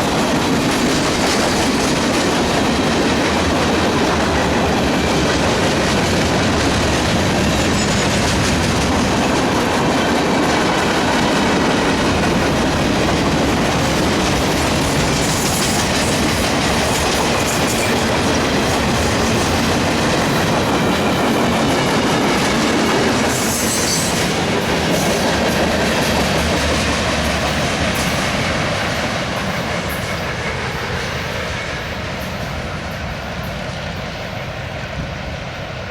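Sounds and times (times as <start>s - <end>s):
train wheels clattering on rail joints: 0.0s - 35.4s
freight train rumble: 0.0s - 35.9s.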